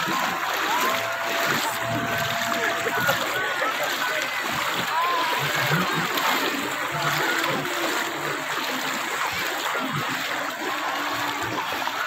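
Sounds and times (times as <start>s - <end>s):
children calling: 0.0s - 12.0s
crowd voices: 0.0s - 12.0s
river water splashing: 0.0s - 12.0s.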